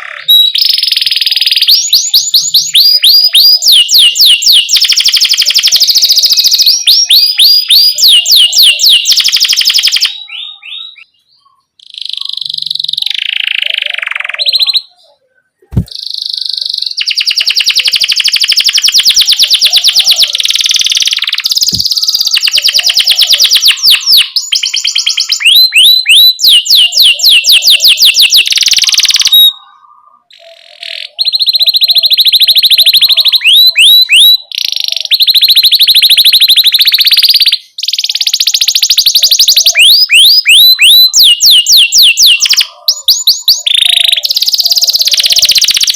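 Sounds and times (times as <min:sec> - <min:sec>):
canary singing trills and chirps: 0:00.0 - 0:45.9.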